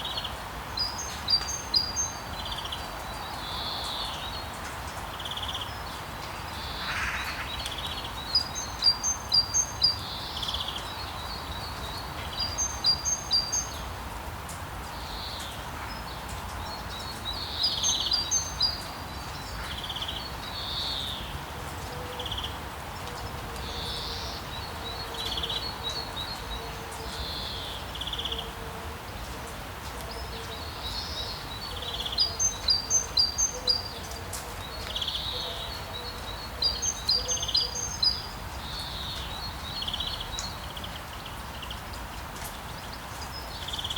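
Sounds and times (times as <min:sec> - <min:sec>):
songbirds chirping: 0:00.0 - 0:43.9
steady rain hiss: 0:00.0 - 0:43.9.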